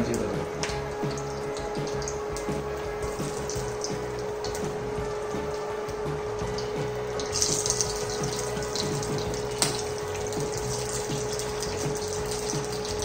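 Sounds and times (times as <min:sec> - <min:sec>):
oil sizzling in frying pan: 0:00.0 - 0:13.0.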